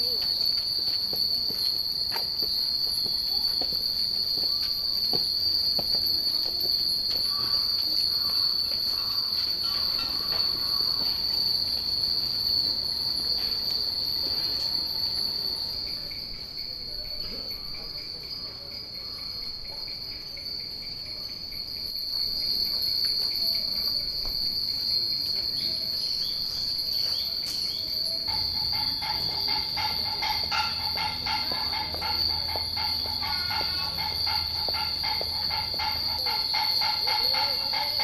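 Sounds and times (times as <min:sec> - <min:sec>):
high-pitched insect drone: 0:00.0 - 0:38.0
wind chimes tinkling: 0:00.0 - 0:38.0.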